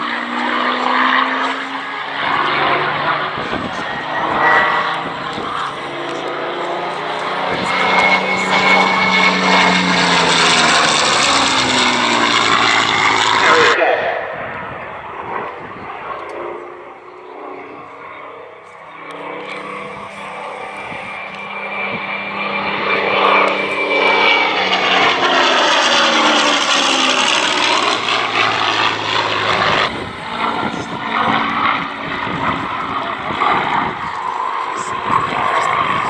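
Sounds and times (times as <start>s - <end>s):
propeller plane flying past: 0.0s - 36.0s.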